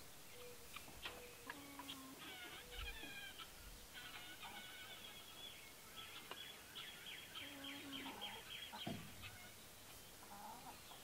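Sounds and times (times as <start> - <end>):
chickens calling low: 0.0 - 11.0
faint birdsong trill: 0.0 - 11.0.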